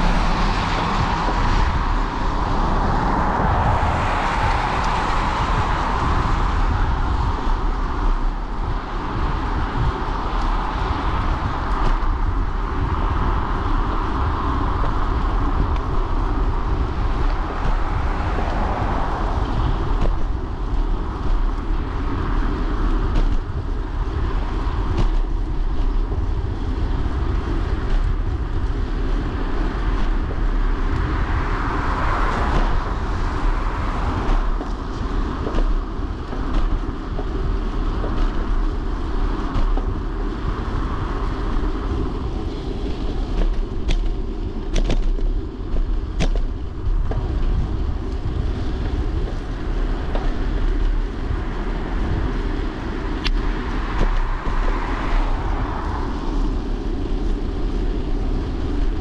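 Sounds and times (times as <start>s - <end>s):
bicycle tyres on wet road: 0.0s - 59.0s.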